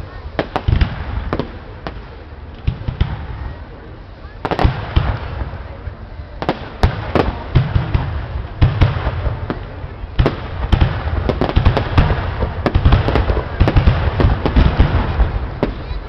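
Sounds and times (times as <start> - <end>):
firework crackle: 0.0 - 16.0.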